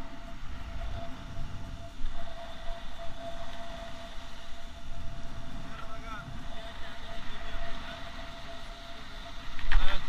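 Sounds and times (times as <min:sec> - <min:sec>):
steady high whine: 0:00.0 - 0:10.0
waves washing onto shore: 0:00.0 - 0:10.0
wind buffeting microphone: 0:00.0 - 0:10.0.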